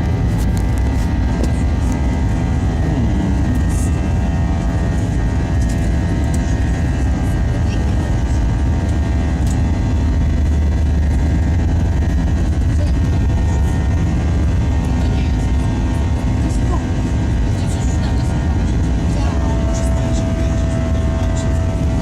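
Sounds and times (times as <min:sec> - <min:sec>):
jet engine cabin drone: 0:00.0 - 0:22.0.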